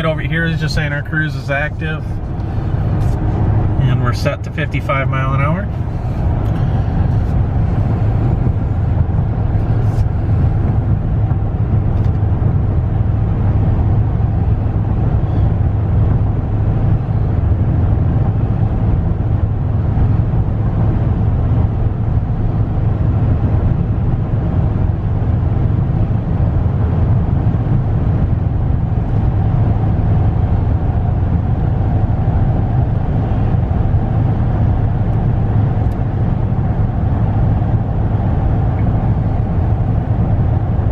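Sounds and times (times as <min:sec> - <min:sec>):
engine drone inside car: 0:00.0 - 0:40.9
tyre and road noise: 0:00.0 - 0:40.9.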